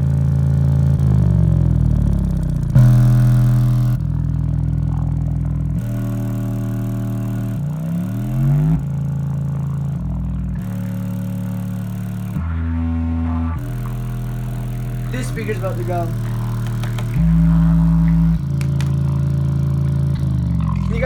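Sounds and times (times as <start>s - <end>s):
deep bass notes through subwoofer: 0.0s - 21.0s.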